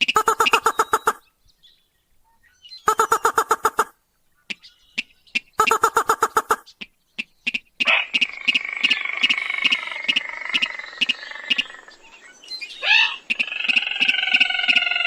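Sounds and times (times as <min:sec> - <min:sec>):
long stacked bird call: 0:00.0 - 0:01.3, 0:02.8 - 0:15.0.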